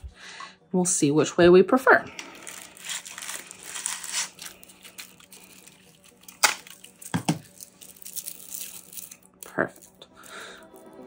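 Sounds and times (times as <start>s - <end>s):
adhesive film crinkling: 2.1s - 11.0s.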